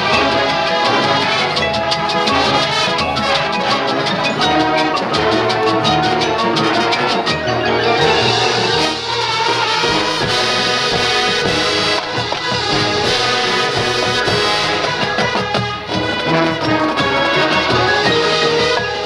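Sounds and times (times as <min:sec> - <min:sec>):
brass chords: 0:00.0 - 0:19.0
marching drums and percussion: 0:00.0 - 0:19.0.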